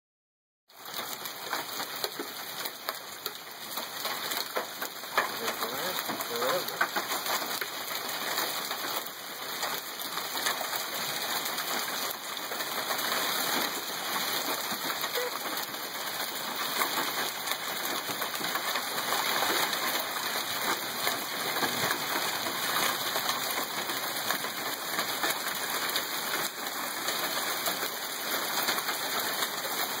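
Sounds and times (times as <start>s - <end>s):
hail falling on roof: 0.8s - 30.0s.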